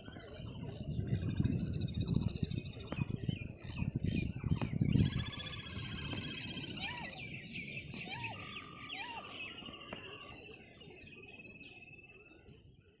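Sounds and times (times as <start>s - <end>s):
high-pitched insect drone: 0.0s - 12.6s
birds calling and trilling: 0.0s - 13.0s.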